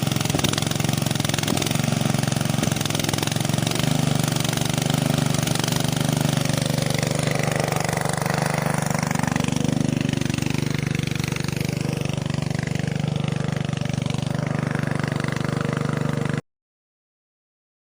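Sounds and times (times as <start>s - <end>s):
small motor humming and rattling: 0.0s - 16.4s.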